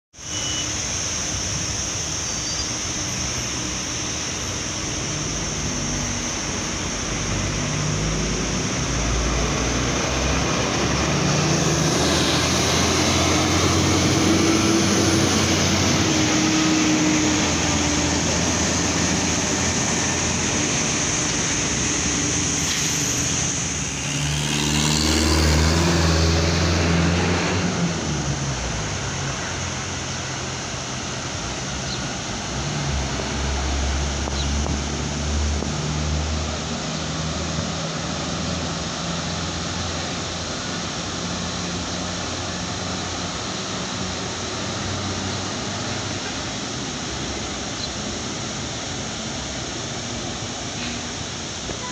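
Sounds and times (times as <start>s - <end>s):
street traffic: 0.1s - 51.9s
diesel truck rumbling past: 0.3s - 51.9s
heavy vehicle passing: 2.9s - 51.7s.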